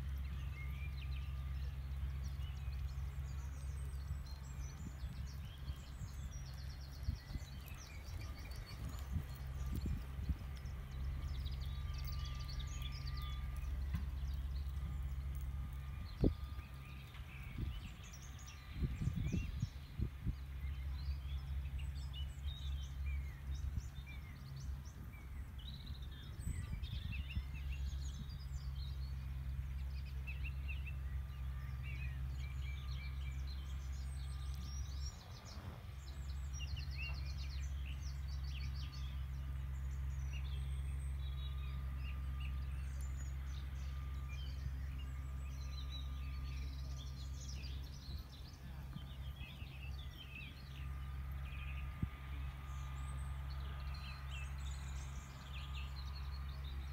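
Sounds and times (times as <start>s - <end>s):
small birds chirping and trilling: 0.0s - 56.9s
steady low rumble: 0.0s - 56.9s.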